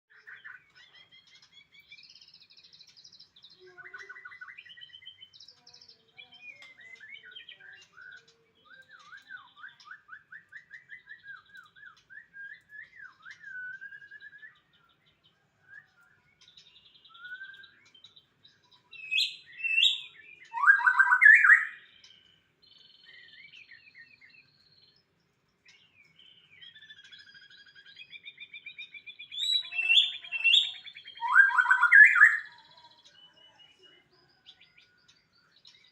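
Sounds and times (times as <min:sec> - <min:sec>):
bird singing whistles and trills: 0:00.1 - 0:35.9.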